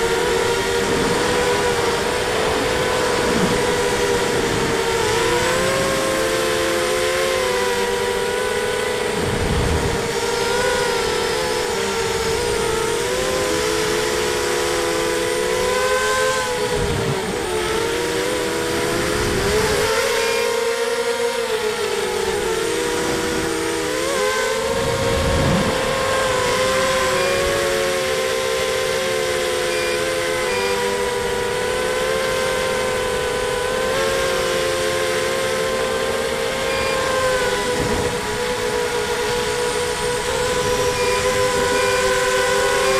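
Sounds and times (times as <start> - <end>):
quadcopter motors whining: 0.0 - 42.9.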